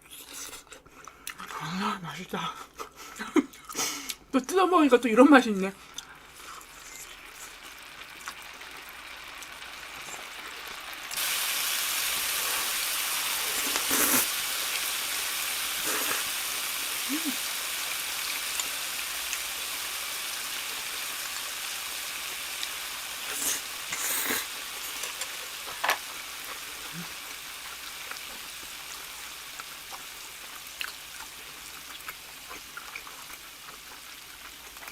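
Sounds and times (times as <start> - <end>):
sizzling hiss: 5.8 - 34.9.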